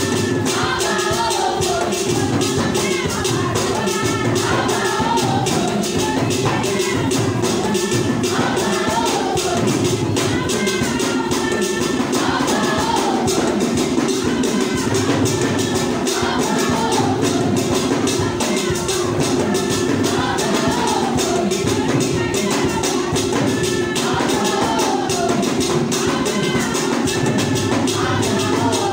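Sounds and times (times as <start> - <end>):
music with fast percussion: 0.0 - 28.9.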